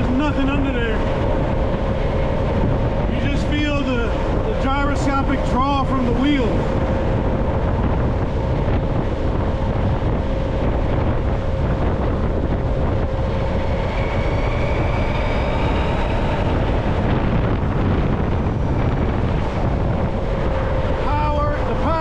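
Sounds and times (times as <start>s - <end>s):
electric motor whine: 0.0s - 22.0s
faint high whine: 0.0s - 22.0s
wind rushing over microphone: 0.0s - 22.0s.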